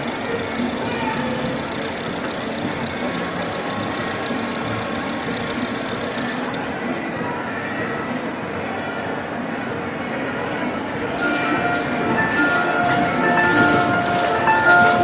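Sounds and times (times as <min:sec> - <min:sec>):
din of a large crowd: 0:00.0 - 0:15.0.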